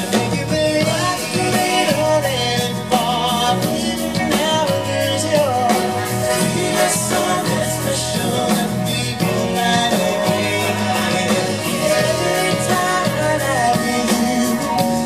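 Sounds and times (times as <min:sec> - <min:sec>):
band with drums saxophone and strings: 0:00.0 - 0:15.0
male vocal group singing in harmony: 0:00.0 - 0:15.0.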